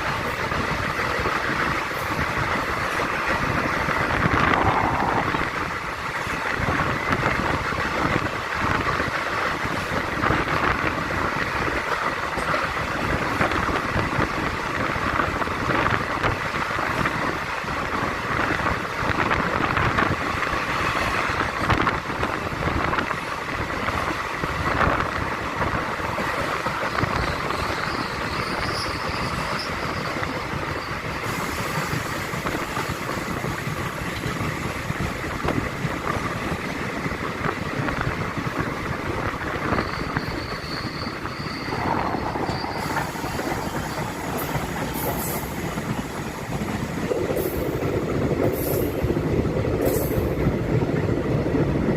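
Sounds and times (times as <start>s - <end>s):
train rumbling and rattling: 0.0s - 51.9s.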